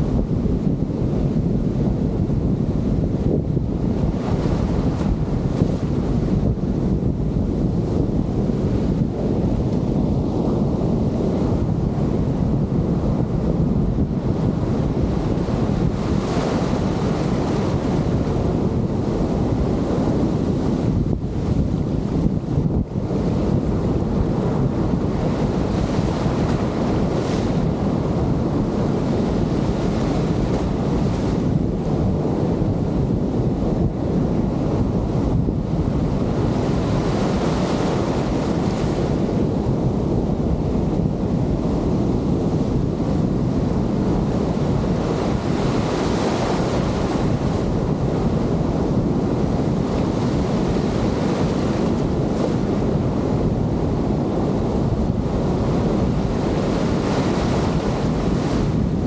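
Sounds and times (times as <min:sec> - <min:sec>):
surf breaking in shallow water: 0:00.0 - 0:59.0
wind buffeting microphone: 0:00.0 - 0:59.0.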